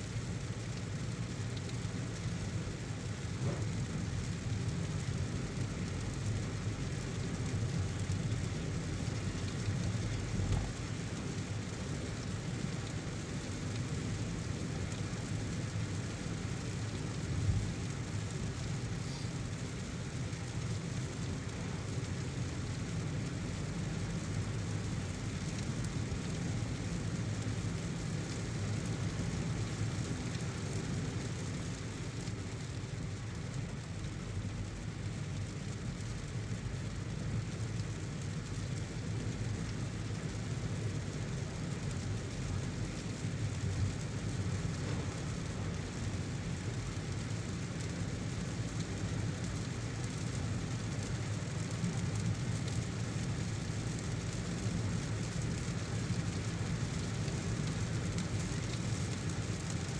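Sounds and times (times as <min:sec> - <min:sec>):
car engine and tyres rumbling: 0:00.0 - 0:59.9
heavy rain hiss: 0:00.0 - 0:59.9.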